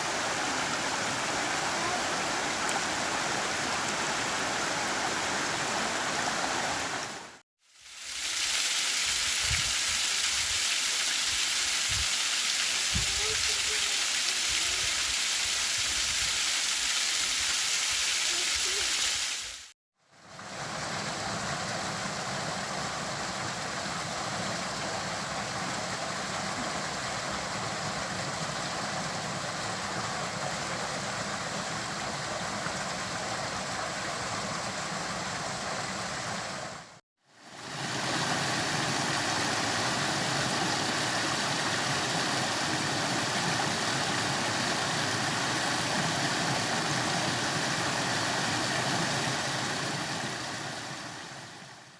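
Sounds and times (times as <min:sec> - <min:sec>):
flowing water rushing: 0:00.0 - 0:51.9.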